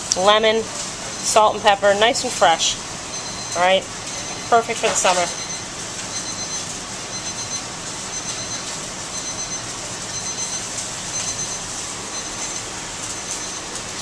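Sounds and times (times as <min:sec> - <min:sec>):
frying: 0:00.0 - 0:14.0
ventilation hiss and rumble: 0:00.0 - 0:14.0.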